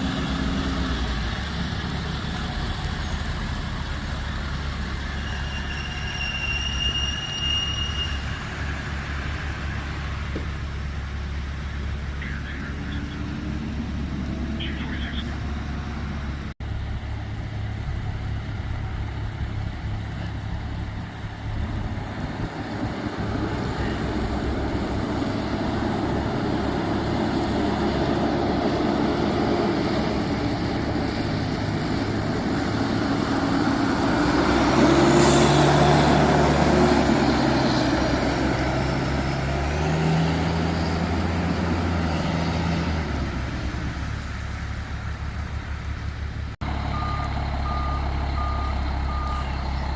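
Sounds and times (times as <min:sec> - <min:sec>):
diesel engine running: 0:00.0 - 0:06.0, 0:08.2 - 0:49.9.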